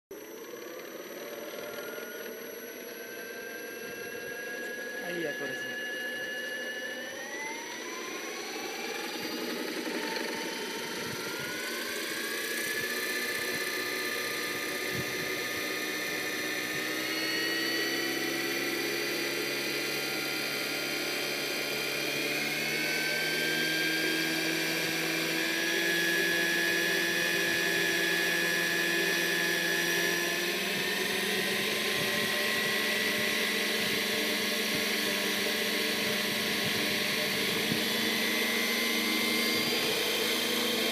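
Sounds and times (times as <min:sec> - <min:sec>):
model helicopter rotor whine: 0:00.1 - 0:40.9.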